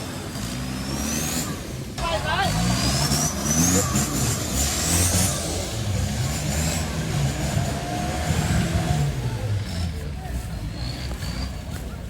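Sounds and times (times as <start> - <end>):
engine revving unevenly: 0.0 - 12.0.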